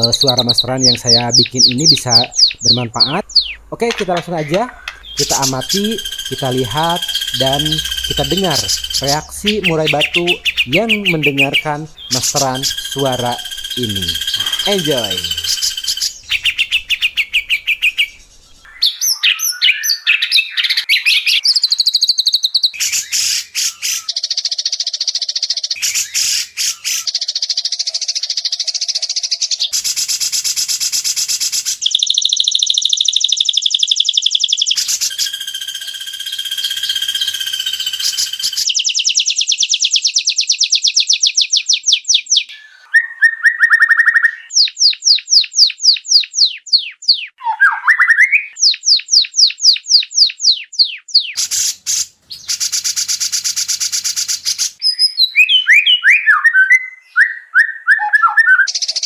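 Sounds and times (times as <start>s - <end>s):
bird song trills and whistles: 0.0s - 59.0s.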